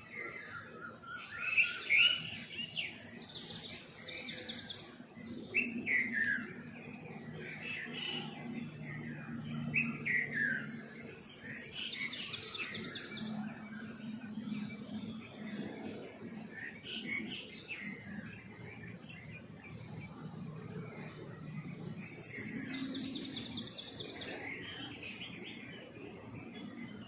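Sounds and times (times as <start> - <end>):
songbirds chirping and singing: 0.0 - 27.0.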